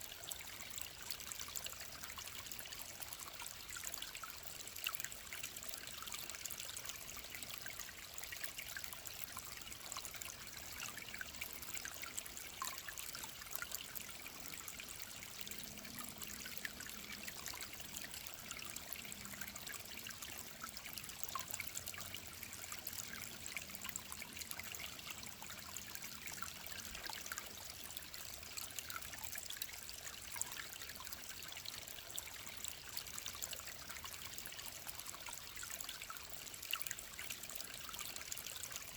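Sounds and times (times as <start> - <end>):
mountain stream trickling: 0.0 - 38.9.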